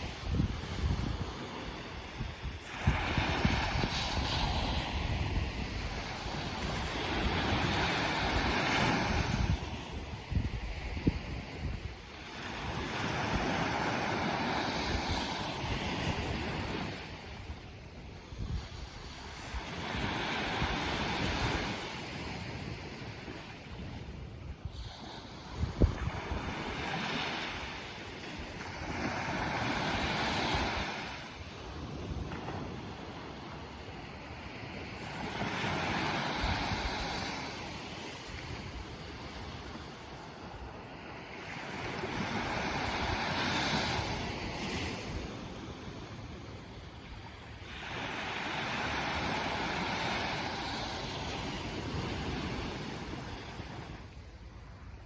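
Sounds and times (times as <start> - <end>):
sea waves washing ashore: 0.0 - 55.0
wind buffeting microphone: 0.0 - 55.0.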